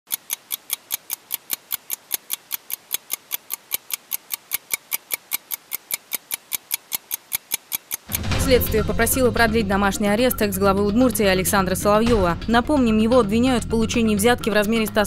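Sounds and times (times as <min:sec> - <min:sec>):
fast even ticking: 0:00.1 - 0:15.0.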